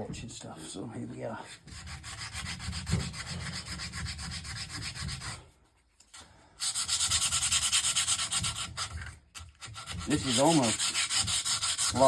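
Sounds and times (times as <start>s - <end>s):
sandpaper rubbing on wood: 1.5s - 12.0s.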